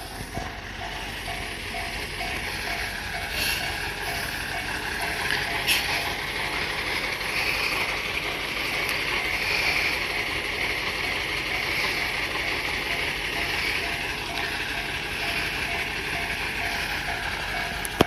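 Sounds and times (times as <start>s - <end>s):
diesel railcar engine idling: 0.0s - 18.0s.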